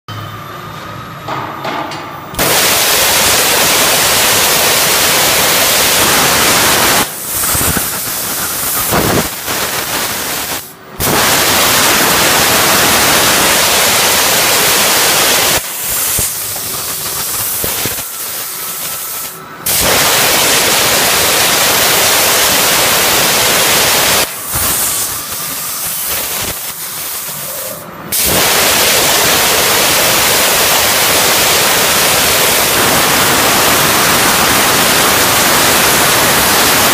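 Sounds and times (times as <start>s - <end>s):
plasma torch cutting hiss: 2.4s - 36.9s.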